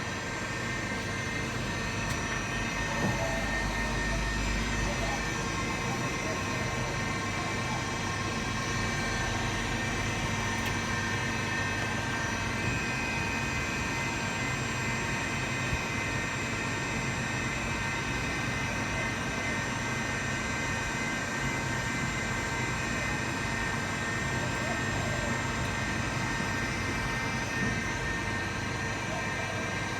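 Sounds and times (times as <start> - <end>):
milling machine humming and whining: 0.0 - 29.9.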